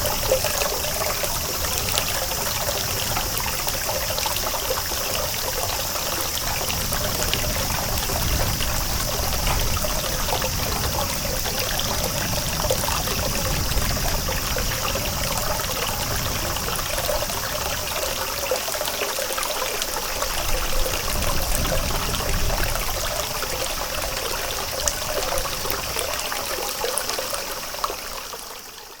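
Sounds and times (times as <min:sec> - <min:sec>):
water trickling and pouring: 0:00.0 - 0:29.0.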